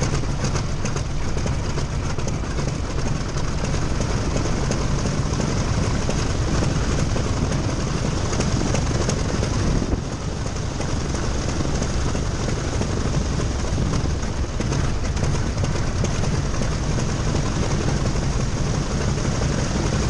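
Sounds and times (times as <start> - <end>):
radial aircraft engine running: 0.0 - 20.0.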